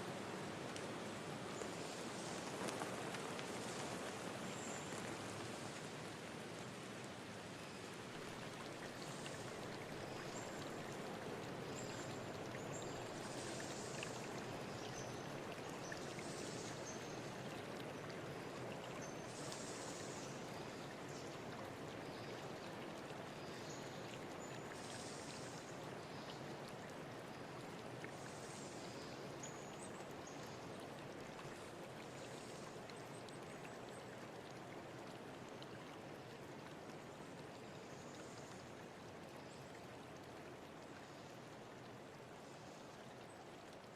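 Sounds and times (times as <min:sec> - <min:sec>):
stream running: 0:00.0 - 0:43.9.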